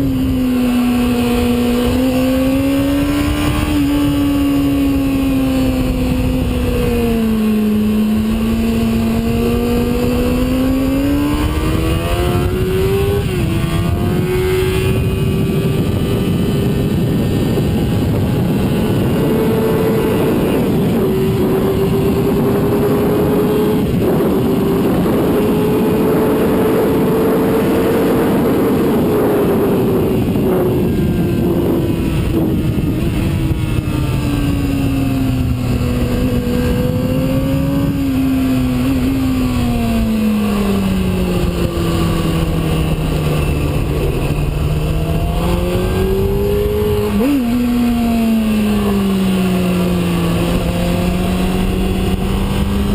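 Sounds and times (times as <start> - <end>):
motorcycle engine running hard: 0.0 - 52.9
wind rushing: 0.0 - 52.9.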